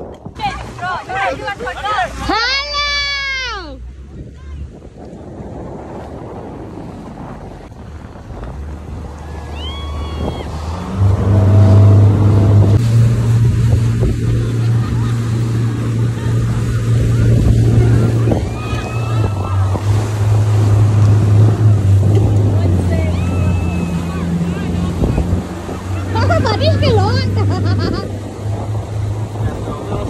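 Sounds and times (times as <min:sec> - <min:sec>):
rush of boat wake: 0:00.0 - 0:30.0
wind on microphone: 0:00.0 - 0:30.0
outboard motor running hard: 0:00.4 - 0:30.0.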